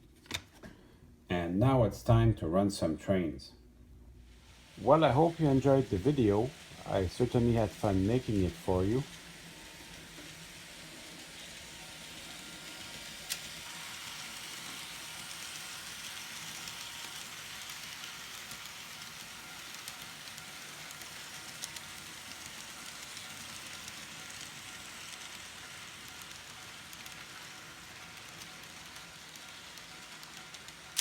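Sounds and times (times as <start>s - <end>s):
model train rolling hiss: 4.3s - 31.0s.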